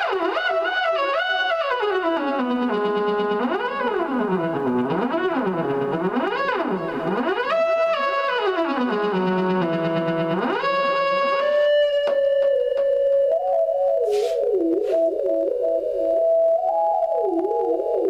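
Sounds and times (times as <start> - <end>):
theremin tone gliding: 0.0 - 18.0.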